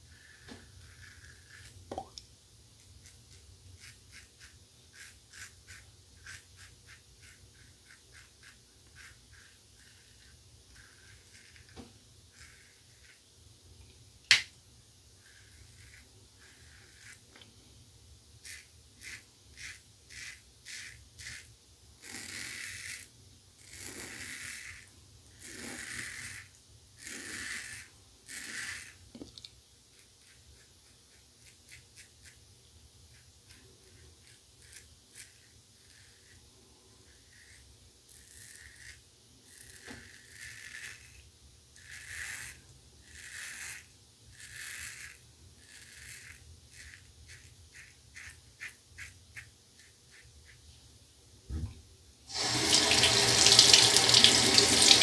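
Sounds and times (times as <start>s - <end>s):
razor strokes on stubble: 0.0s - 1.8s, 2.8s - 13.3s, 15.2s - 17.5s, 18.4s - 29.1s, 29.9s - 32.4s, 33.1s - 50.6s, 52.3s - 55.0s.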